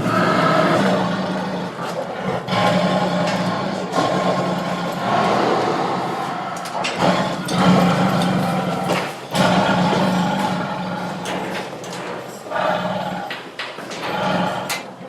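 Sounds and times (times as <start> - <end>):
tiger roaring: 0.0 - 15.0.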